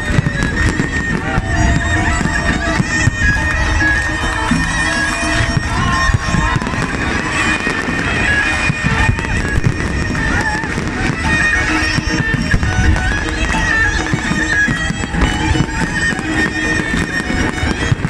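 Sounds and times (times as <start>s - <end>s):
fireworks bangs and crackles: 0.0s - 18.0s
reedy wind instrument music: 0.0s - 18.0s.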